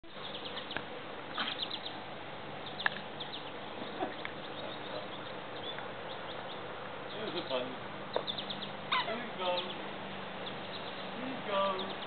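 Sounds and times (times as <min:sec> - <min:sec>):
birds chirping: 0:00.0 - 0:12.0
steady background hiss: 0:00.1 - 0:12.0.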